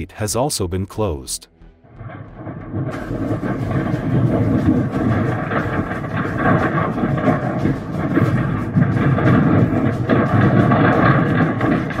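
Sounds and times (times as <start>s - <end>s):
fire crackling and popping: 2.0s - 12.0s
fire roaring: 2.0s - 12.0s.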